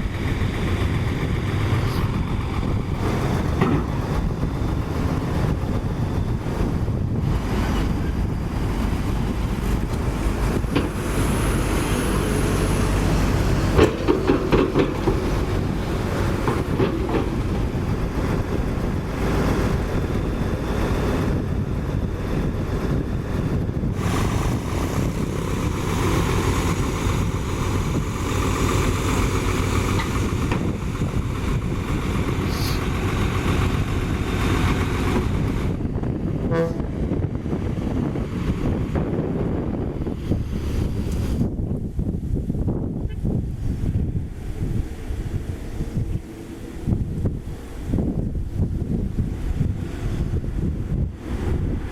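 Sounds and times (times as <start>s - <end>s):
diesel engine running: 0.0s - 51.9s
wind on microphone: 0.0s - 51.9s.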